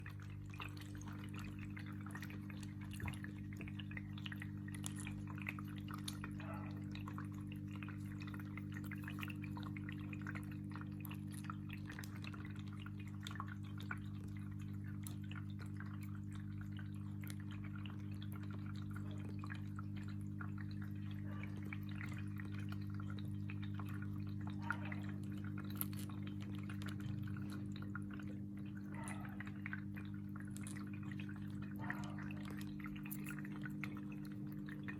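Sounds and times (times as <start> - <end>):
steady low hum: 0.0 - 34.9
water dripping: 0.0 - 34.9.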